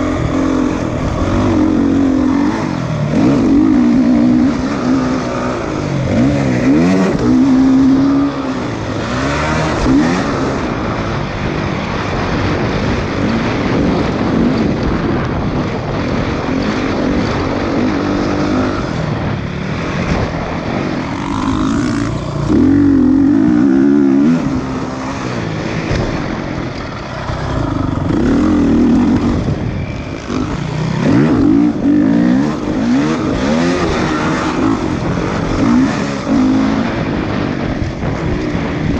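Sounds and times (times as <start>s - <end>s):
din of engines: 0.0s - 38.9s
motocross bikes revving past: 0.0s - 38.9s.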